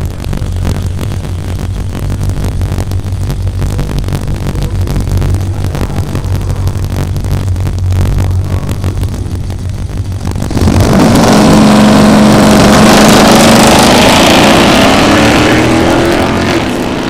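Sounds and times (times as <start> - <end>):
drag-race engine revving: 0.0 - 17.0.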